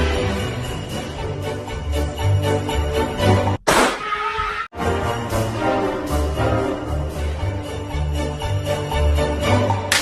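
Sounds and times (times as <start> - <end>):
jingling bell-like music: 0.0 - 3.6, 4.8 - 10.0.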